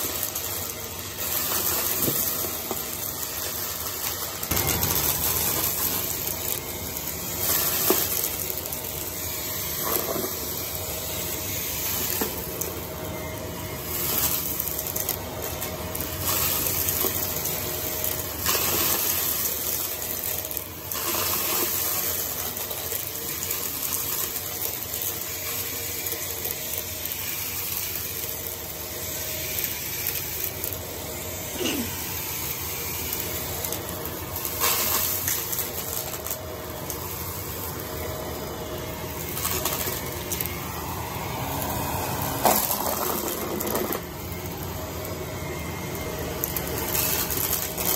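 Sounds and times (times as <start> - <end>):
debris rattling in vacuum: 0.0 - 47.9
vacuum cleaner running: 0.0 - 47.9.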